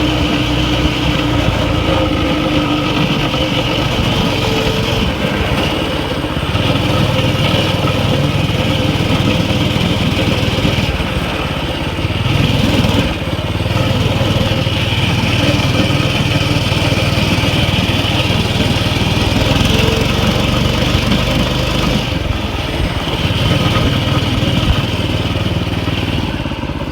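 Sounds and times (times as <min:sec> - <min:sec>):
mini bike engine revving: 0:00.0 - 0:26.9.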